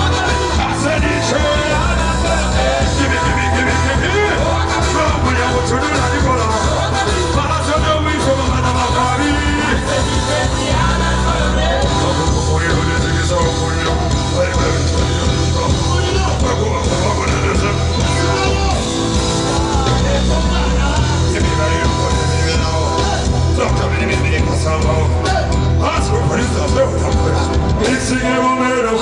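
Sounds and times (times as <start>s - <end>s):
amplified band music: 0.0s - 29.0s
heavy bass line: 0.0s - 29.0s.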